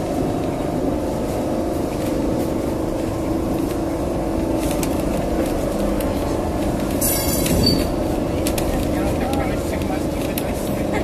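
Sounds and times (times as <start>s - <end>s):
constant hum: 0.0s - 11.0s
tram wheels rumbling on rail: 0.0s - 11.0s.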